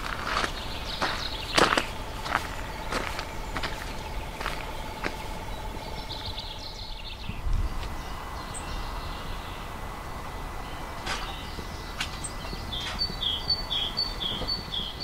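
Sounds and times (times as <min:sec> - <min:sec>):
birds chirping: 0:00.0 - 0:15.0
heavy lorry rumbling on gravel: 0:00.0 - 0:15.0
steady pulsing tone: 0:00.0 - 0:15.0.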